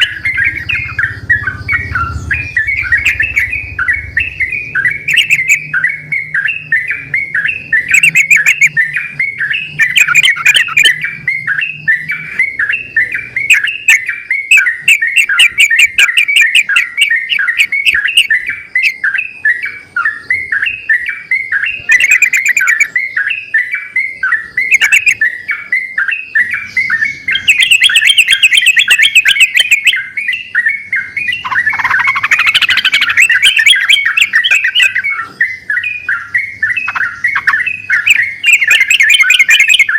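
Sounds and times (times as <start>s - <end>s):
bulbuls bubbling chirps: 0.0s - 39.9s
rapid high bird trills: 0.0s - 39.9s.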